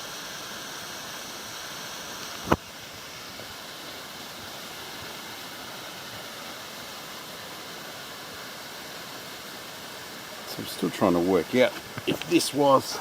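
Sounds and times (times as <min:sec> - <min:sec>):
waterfall rushing: 0:00.5 - 0:13.0.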